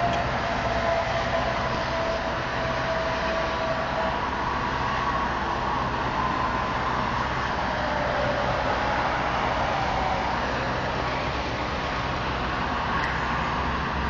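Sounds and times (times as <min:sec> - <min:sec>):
crane engine droning: 0:00.0 - 0:14.0
road traffic: 0:00.0 - 0:14.0.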